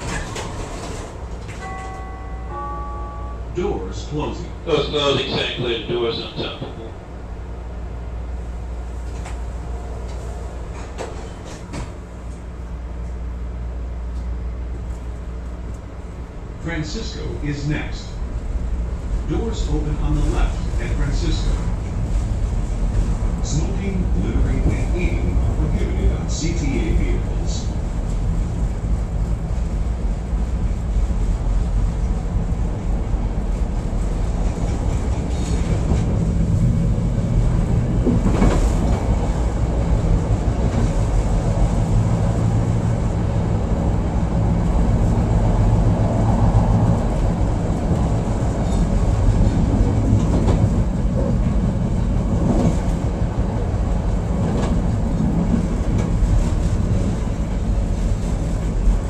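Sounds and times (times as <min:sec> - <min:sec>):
train motors and wheels humming: 0:00.0 - 0:59.0.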